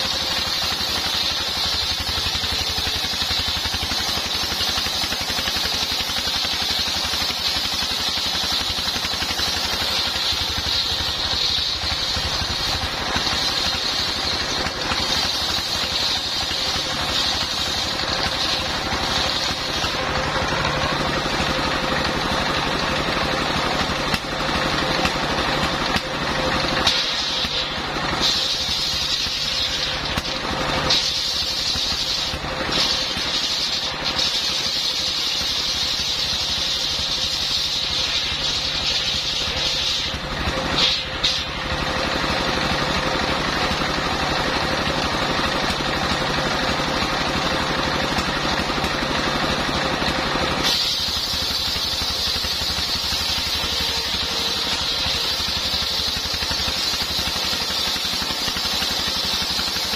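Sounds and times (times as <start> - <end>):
diesel engine running: 0.0 - 59.9
saw blade whine: 0.0 - 59.9.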